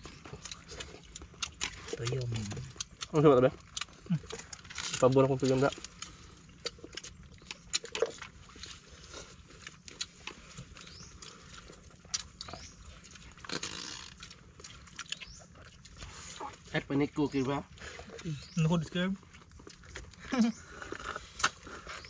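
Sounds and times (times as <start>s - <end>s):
eating noises: 0.0s - 22.0s.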